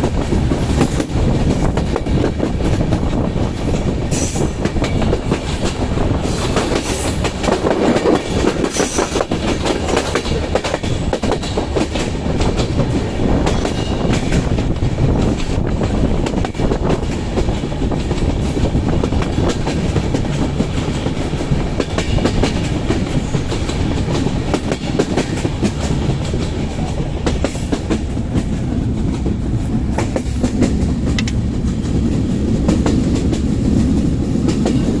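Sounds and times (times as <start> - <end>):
train rumble: 0.0 - 35.0
train wheels clattering over rail joints: 0.0 - 35.0.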